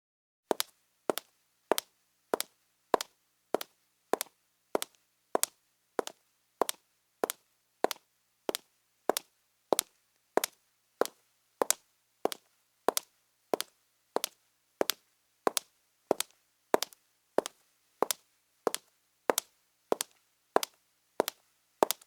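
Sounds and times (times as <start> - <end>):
high heels on marble floor: 0.5 - 22.0.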